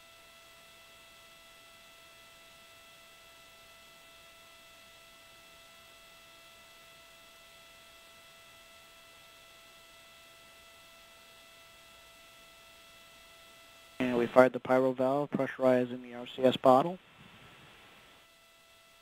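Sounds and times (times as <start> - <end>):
faint electronic hum with hiss: 0.0 - 19.0.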